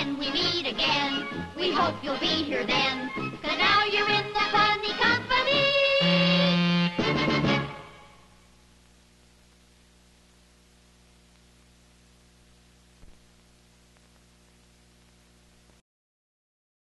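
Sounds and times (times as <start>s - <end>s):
faint mains hum with hiss: 0.0s - 15.8s.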